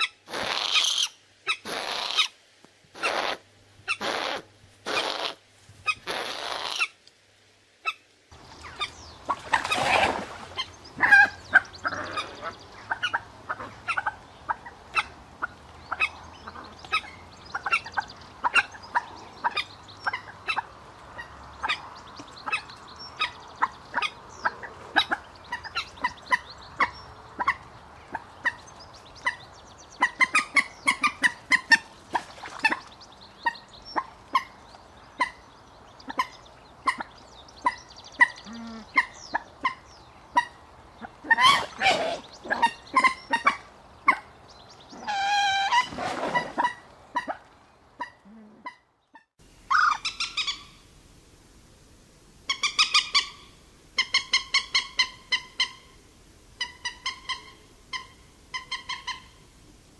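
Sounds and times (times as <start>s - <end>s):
moorhen calling: 7.8s - 50.8s, 52.5s - 56.0s, 56.6s - 59.5s.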